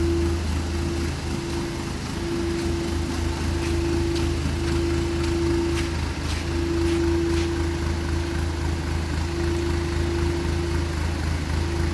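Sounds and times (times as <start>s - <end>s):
diesel engine idling: 0.0s - 11.9s
steady whine: 0.0s - 11.9s.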